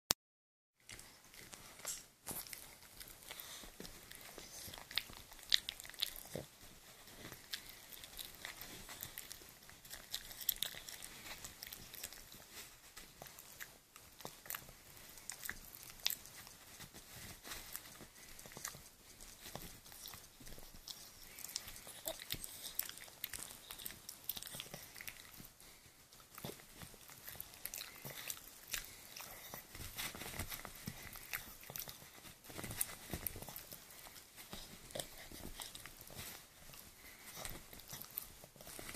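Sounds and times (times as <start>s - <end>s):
dog chewing a chew stick: 0.8s - 38.9s.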